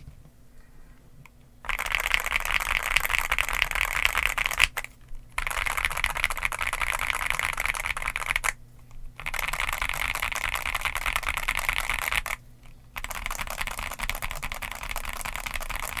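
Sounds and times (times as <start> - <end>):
fast mechanical keyboard typing: 1.6 - 8.6, 9.2 - 16.0.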